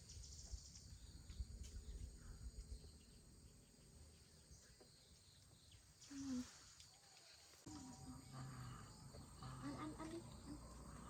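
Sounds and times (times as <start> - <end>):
faint insects trilling: 0.0 - 11.0.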